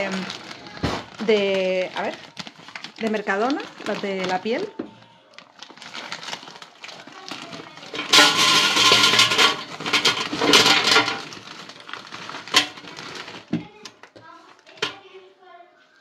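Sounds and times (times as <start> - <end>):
frozen fries clattering into basket: 0.0 - 4.8, 5.4 - 15.1
plastic bag rustling: 0.0 - 15.6.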